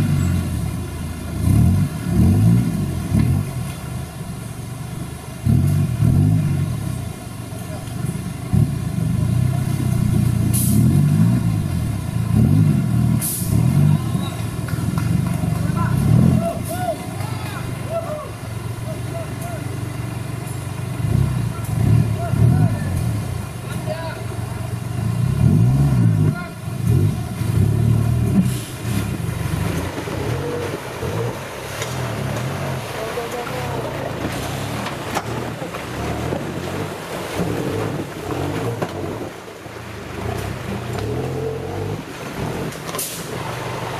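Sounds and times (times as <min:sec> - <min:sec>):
truck engine revving: 0:00.0 - 0:43.9
tyres splashing through water: 0:00.0 - 0:43.9.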